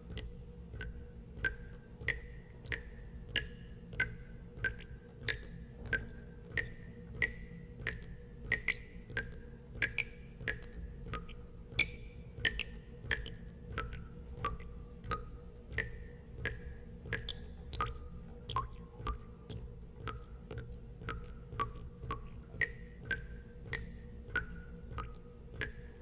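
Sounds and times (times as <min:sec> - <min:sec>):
steady low hum: 0:00.0 - 0:26.0
water drops plinking into water: 0:00.1 - 0:26.0.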